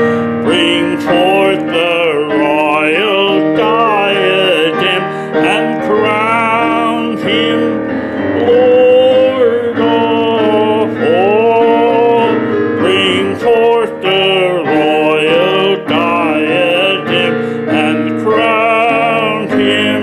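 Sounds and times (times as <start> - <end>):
choir singing a hymn: 0.0 - 20.0
piano accompaniment: 0.0 - 20.0.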